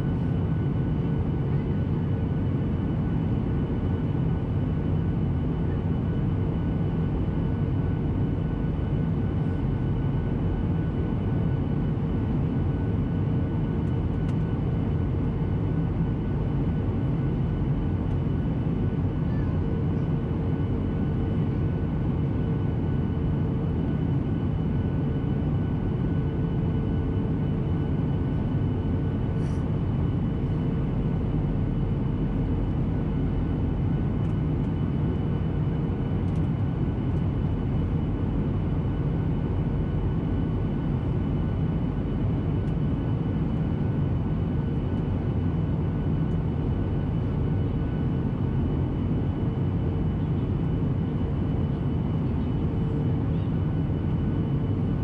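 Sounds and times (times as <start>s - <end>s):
airplane engine rumble: 0.0s - 55.0s.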